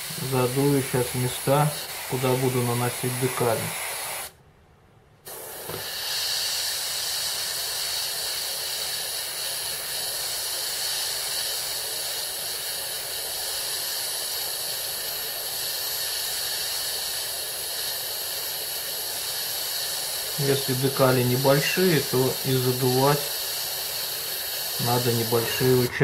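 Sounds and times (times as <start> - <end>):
airbrush spraying hiss: 0.0 - 4.4, 5.2 - 26.0.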